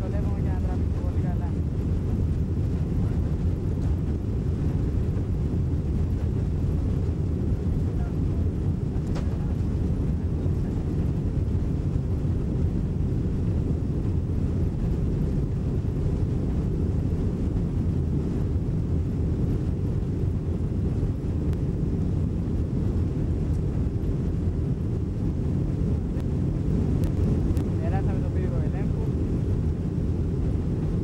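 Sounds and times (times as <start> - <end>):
jet engines deep rumble: 0.0 - 31.0.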